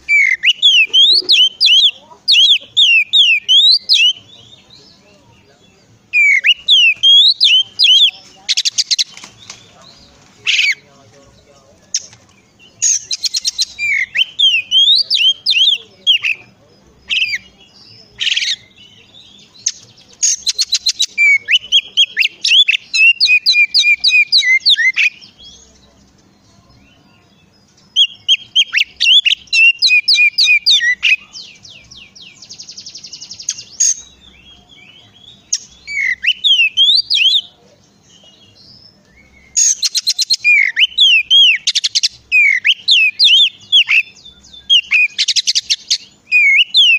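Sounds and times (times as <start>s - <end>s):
bird singing whistled phrases: 0.0s - 4.8s, 6.1s - 9.7s, 11.9s - 25.7s, 28.0s - 37.6s, 38.2s - 46.9s.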